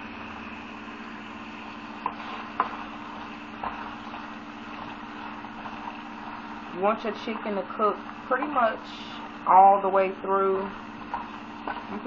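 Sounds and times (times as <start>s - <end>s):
chicken sizzling in a pan: 0.0s - 12.0s
steady mechanical hum: 0.0s - 12.0s.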